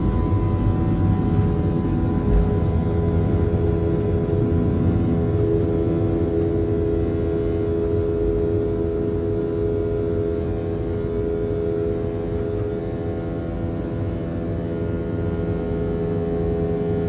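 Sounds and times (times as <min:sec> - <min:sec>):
airplane cabin drone: 0:00.0 - 0:17.0
steady hum: 0:00.0 - 0:17.0.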